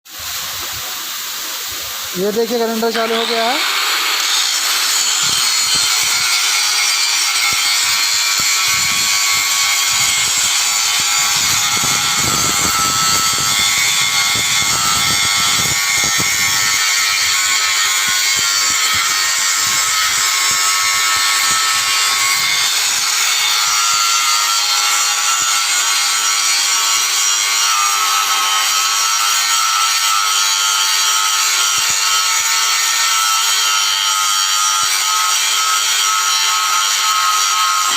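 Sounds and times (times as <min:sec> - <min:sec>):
boring machine cutting metal: 0:02.1 - 0:37.9.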